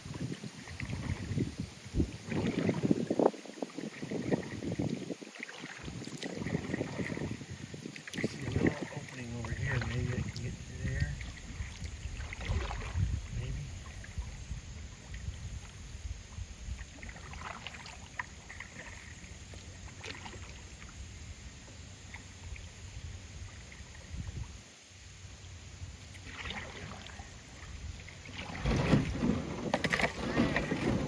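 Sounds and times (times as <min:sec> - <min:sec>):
paddle splashes and drips: 0:00.0 - 0:31.0
wind rumble on microphone: 0:00.0 - 0:31.0.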